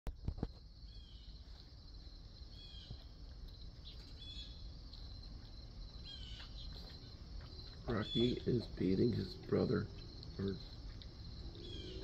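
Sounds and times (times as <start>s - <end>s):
high insect-like hiss: 0.2s - 12.0s.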